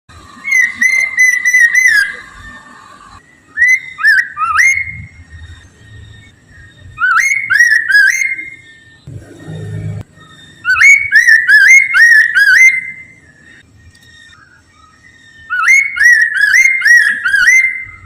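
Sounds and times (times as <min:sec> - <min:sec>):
songbird whistling song: 0:00.1 - 0:09.1, 0:10.0 - 0:18.0.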